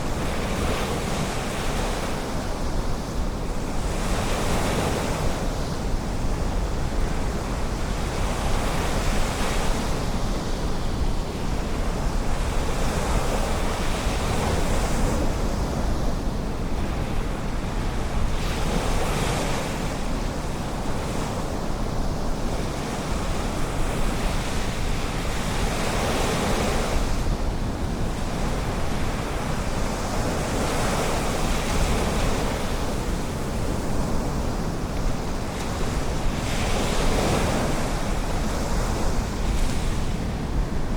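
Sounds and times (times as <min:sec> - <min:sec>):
ocean surf washing ashore: 0:00.0 - 0:40.9
wind rumble on microphone: 0:00.0 - 0:40.9.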